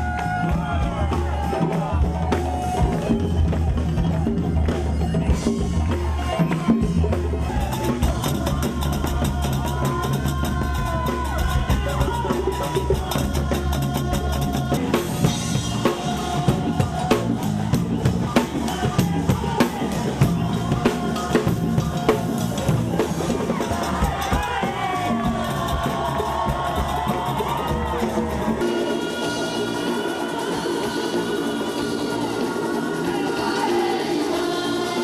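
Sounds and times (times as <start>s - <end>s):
band music with drums: 0.0s - 35.0s.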